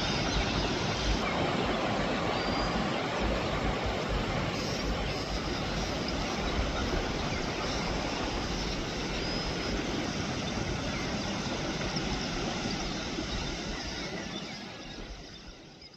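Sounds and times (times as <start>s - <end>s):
surf roaring: 0.0s - 15.1s
wind: 0.0s - 15.9s.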